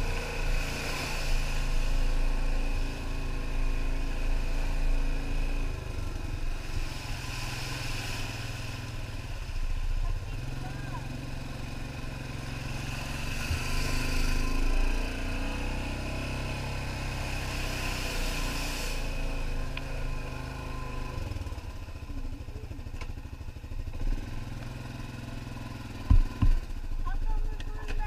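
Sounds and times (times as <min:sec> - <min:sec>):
tyres hissing through wet mud: 0:00.0 - 0:26.8
quad engine running: 0:00.0 - 0:28.0.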